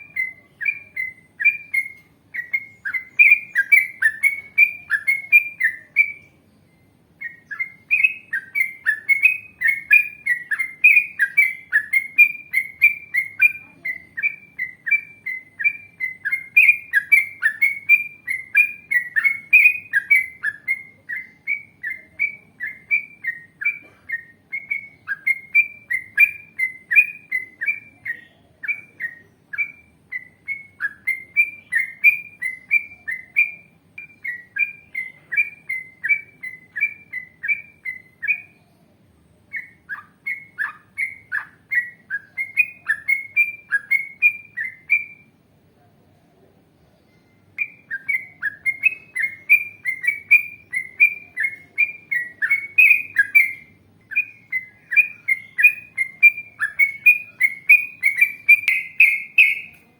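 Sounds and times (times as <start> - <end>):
bird singing whistled notes: 0.0 - 45.5, 46.7 - 59.9
faint high twittering: 0.0 - 59.9.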